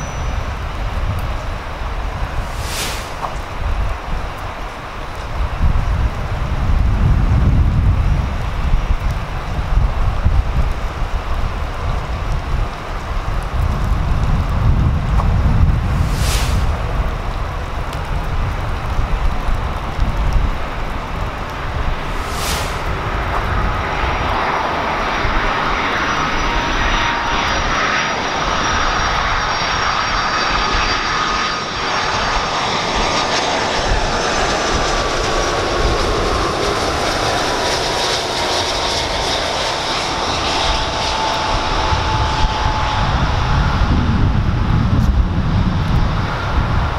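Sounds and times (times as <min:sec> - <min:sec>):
deep aircraft rumble: 0:00.0 - 0:46.9
jet engine whine: 0:00.0 - 0:46.9.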